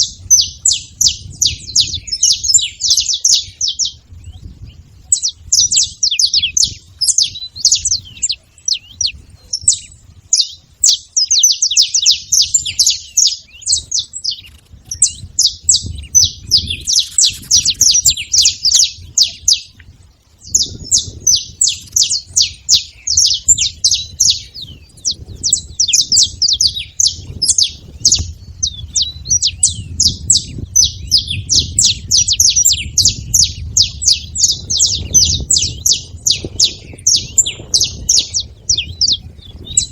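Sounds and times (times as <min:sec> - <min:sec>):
finch singing sharp chirps: 0:00.0 - 0:39.9.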